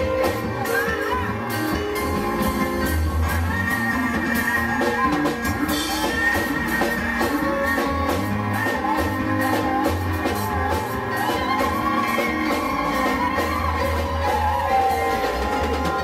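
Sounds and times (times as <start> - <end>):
band with drums guitar and bass: 0.0 - 16.0.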